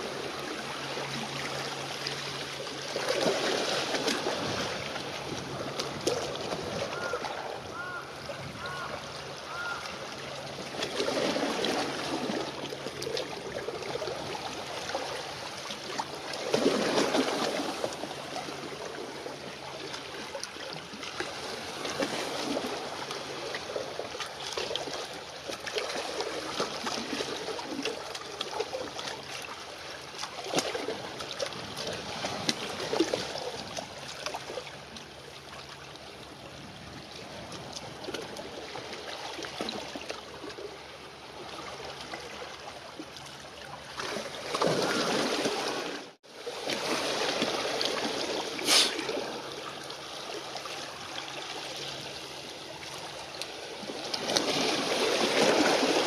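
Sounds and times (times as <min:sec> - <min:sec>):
small waves lapping and splashing: 0:00.0 - 0:56.0.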